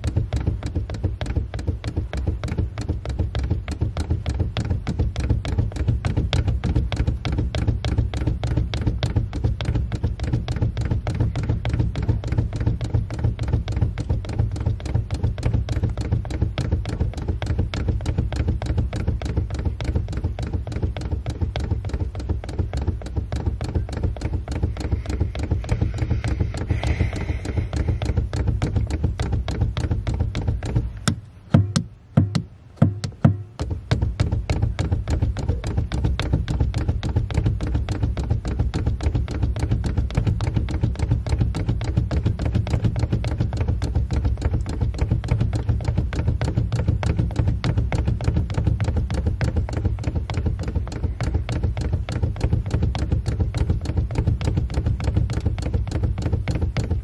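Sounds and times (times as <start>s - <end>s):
sharp knocks: 0.0s - 57.0s.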